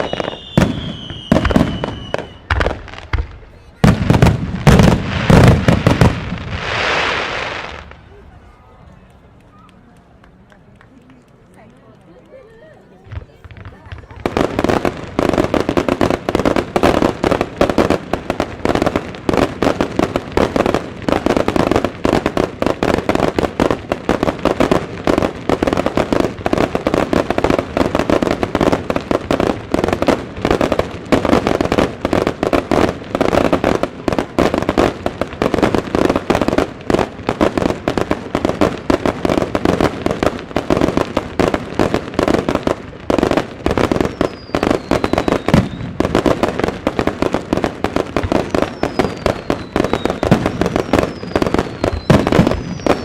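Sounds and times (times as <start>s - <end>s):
fireworks booming rapidly: 0.0s - 8.6s, 13.0s - 53.0s.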